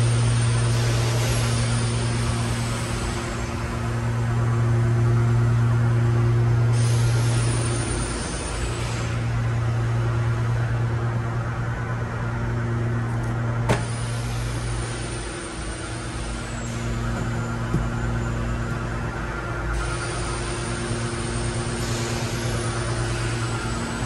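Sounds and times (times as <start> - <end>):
industrial machinery drone: 0.0 - 24.0.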